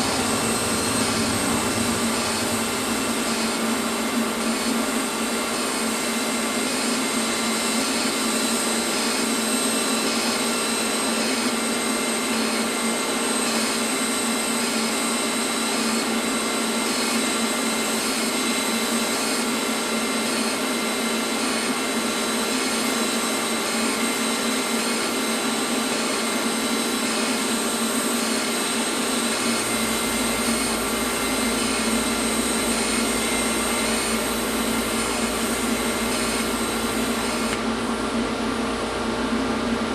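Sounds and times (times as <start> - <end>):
power grinder grinding steel: 0.0 - 37.6.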